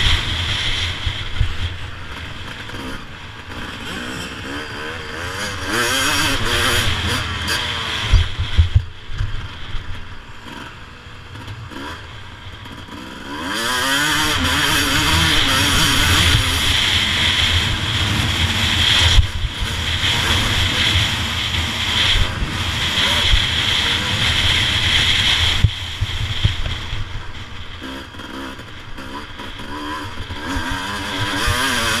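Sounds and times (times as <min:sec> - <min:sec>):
wind rushing over camera: 0:00.0 - 0:03.8, 0:05.5 - 0:10.2, 0:14.0 - 0:32.0
motocross bike engine revving: 0:00.0 - 0:32.0.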